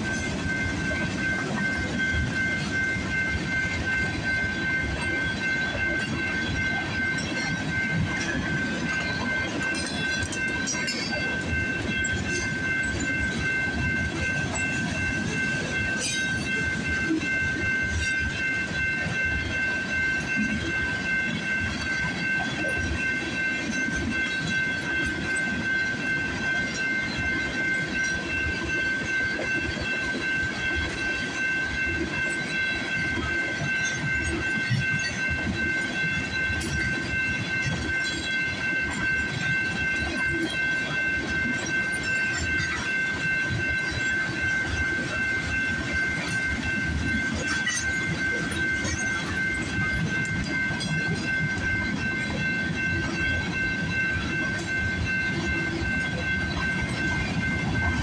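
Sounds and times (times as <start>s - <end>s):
high ringing tone: 0.0s - 58.0s
train wheels rumbling on rails: 0.0s - 58.0s.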